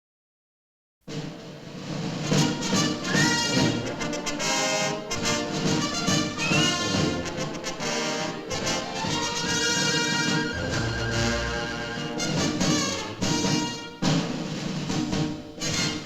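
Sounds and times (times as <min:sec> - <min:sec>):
orchestral cartoon music with brass: 0:01.1 - 0:16.0.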